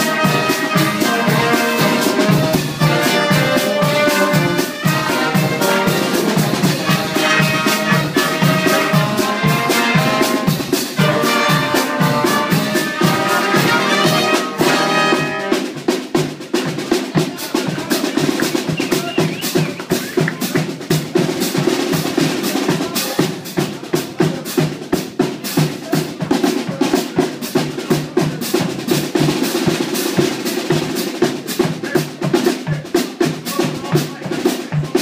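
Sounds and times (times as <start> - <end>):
fast snare and bass drum beat: 0.0 - 35.0.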